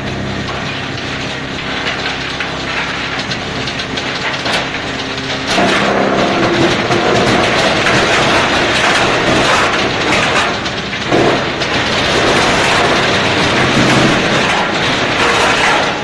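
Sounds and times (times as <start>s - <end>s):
machine hum: 0.0s - 16.0s
root shredder grinding and rattling: 0.0s - 16.0s.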